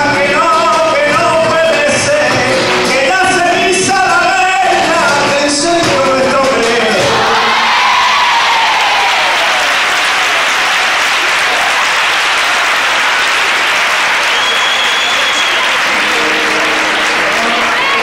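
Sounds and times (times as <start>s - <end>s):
audience applauding: 0.0s - 4.4s, 6.9s - 18.0s.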